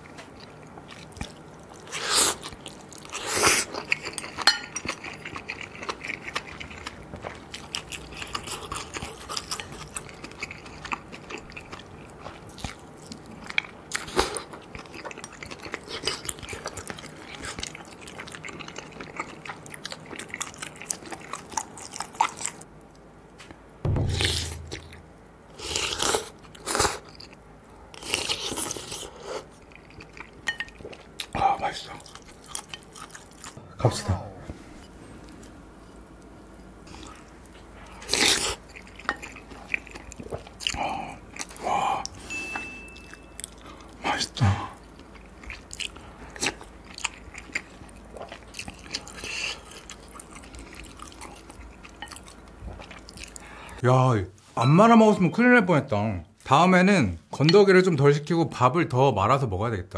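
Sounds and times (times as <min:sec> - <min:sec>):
person chewing: 0:00.0 - 0:22.9, 0:23.9 - 0:33.6, 0:34.8 - 0:53.8.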